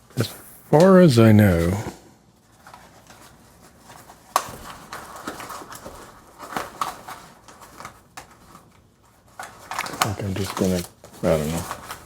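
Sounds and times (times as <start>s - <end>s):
faint rustling: 1.2s - 12.0s.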